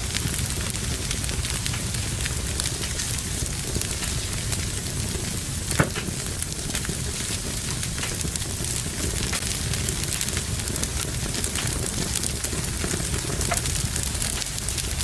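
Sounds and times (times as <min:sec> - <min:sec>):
fire crackling: 0:00.0 - 0:15.0
fire popping: 0:00.0 - 0:15.0.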